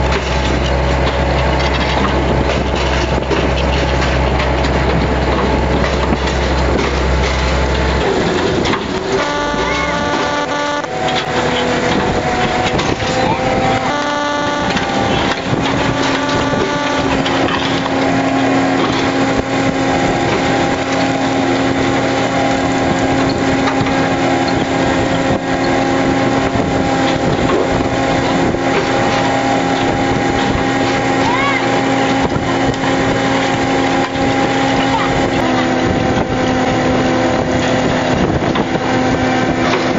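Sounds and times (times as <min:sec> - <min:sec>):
boat engine droning hum: 0:00.0 - 0:39.9.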